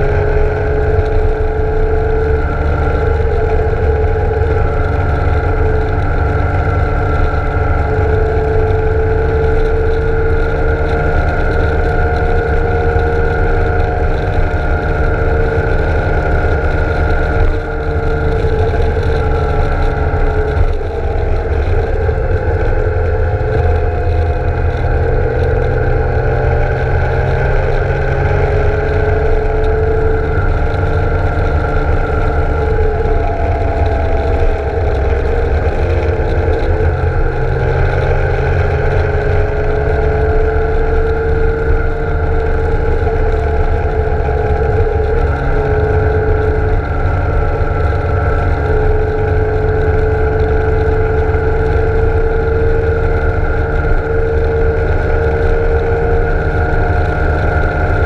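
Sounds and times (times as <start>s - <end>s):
low wind rumble on microphone: 0.0s - 58.0s
motorcycle engine running: 0.0s - 58.0s.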